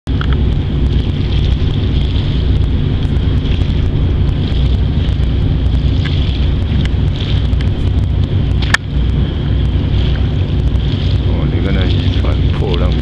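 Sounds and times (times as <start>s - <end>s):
boat engine rumble: 0.0s - 13.0s
wind buffeting microphone: 0.1s - 13.0s.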